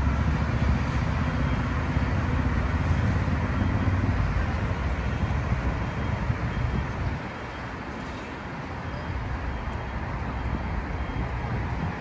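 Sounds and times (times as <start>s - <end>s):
road traffic: 0.0s - 12.0s
train rumbling on viaduct: 0.0s - 12.0s.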